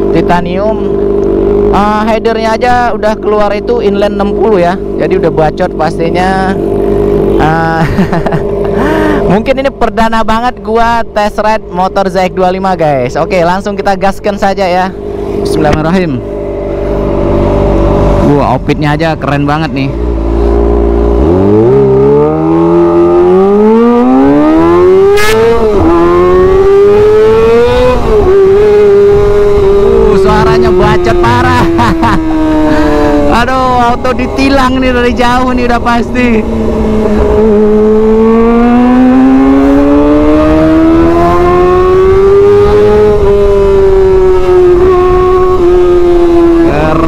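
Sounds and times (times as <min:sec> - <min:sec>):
low noisy rumble: 0:00.0 - 0:47.0
motorcycle engine accelerating hard: 0:00.0 - 0:47.0.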